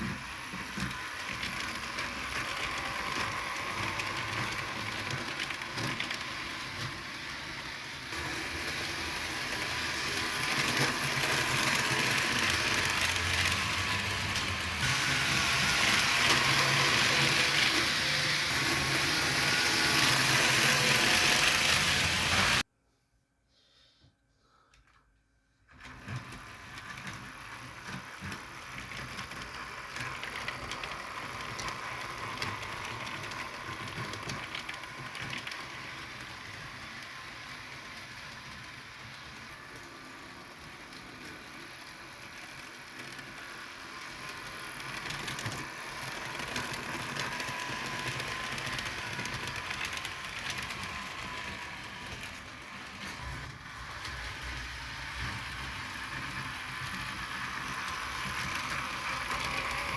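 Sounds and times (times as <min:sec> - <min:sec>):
model train motors whirring: 0:00.0 - 0:22.6, 0:25.7 - 0:59.9.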